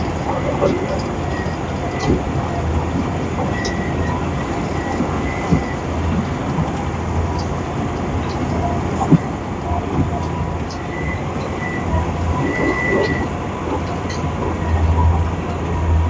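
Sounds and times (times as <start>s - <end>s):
heavy diesel machinery rumbling: 0.0s - 16.0s.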